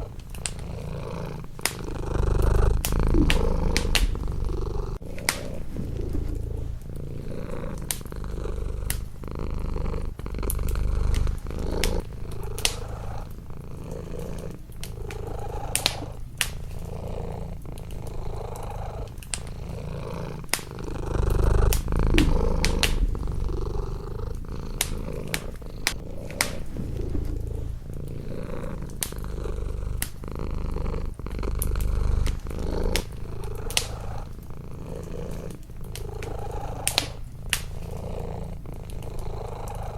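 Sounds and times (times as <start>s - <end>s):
wood fire crackling: 0.0s - 39.7s
cat purring: 0.0s - 39.9s.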